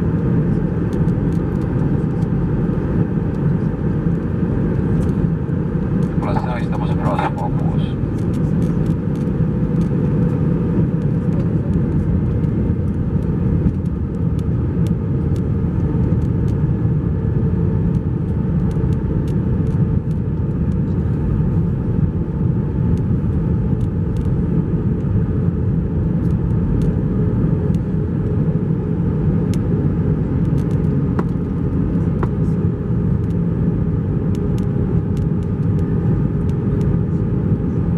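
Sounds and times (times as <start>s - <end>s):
airplane cabin rumble: 0.0s - 37.9s.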